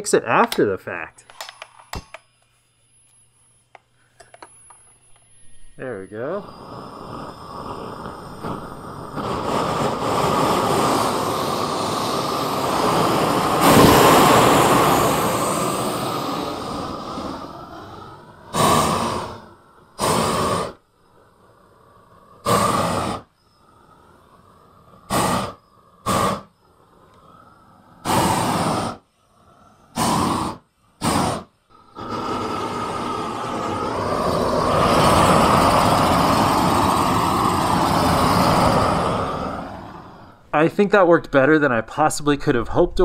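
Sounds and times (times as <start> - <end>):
propane torch flame blasts: 3.7 - 41.4.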